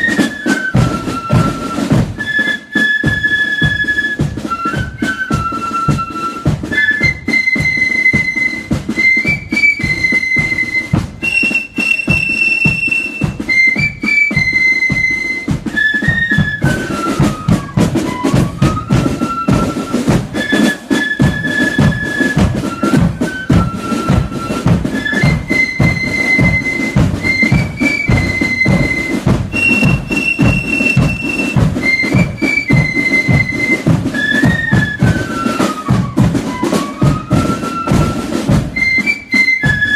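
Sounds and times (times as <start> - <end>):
flutes playing high melody: 0.0 - 39.9
rapid drumming: 0.0 - 39.9.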